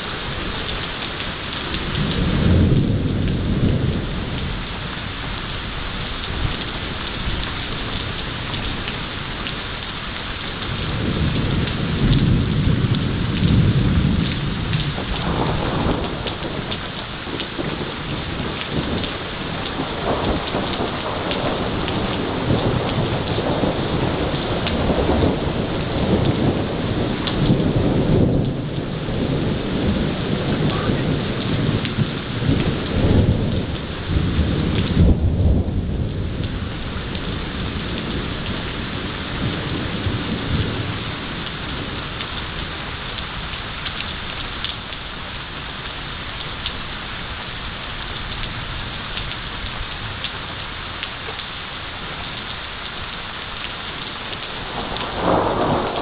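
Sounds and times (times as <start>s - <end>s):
steady rain: 0.0s - 56.0s
thunder rumbling: 0.0s - 56.0s.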